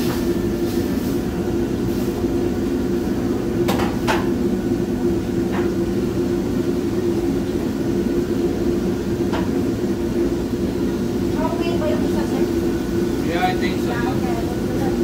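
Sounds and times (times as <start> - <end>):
gas burners roaring: 0.0 - 15.0
kitchen exhaust hood rumble: 0.0 - 15.0.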